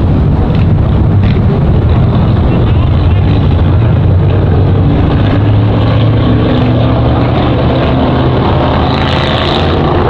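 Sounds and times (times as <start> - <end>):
race car engine at speed: 0.0 - 10.0.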